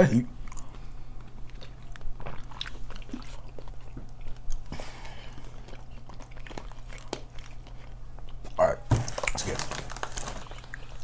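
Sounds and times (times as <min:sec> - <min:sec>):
low steady hum: 0:00.0 - 0:11.0
person chewing: 0:00.4 - 0:09.4, 0:10.2 - 0:11.0.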